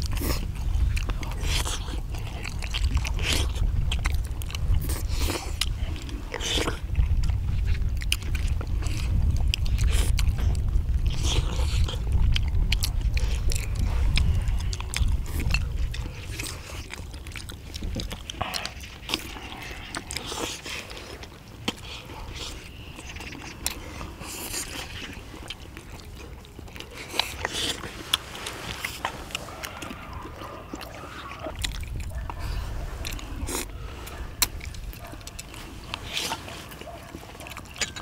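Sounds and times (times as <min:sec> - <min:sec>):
people chewing food: 0:00.0 - 0:38.0.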